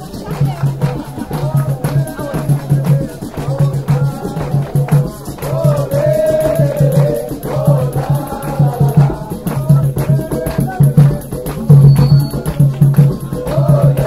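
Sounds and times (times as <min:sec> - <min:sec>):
low drum beat: 0:00.0 - 0:14.0
rattle percussion: 0:00.0 - 0:14.0.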